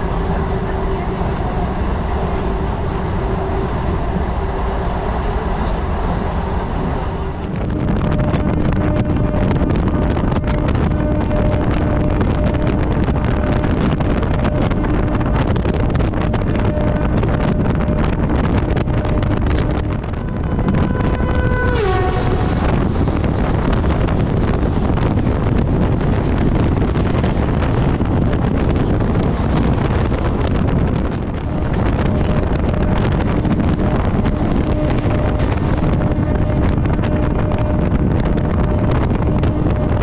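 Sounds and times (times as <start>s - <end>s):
passing train coaches rushing: 0.0s - 40.0s
train horn: 0.0s - 40.0s
wind and rail noise: 0.0s - 40.0s.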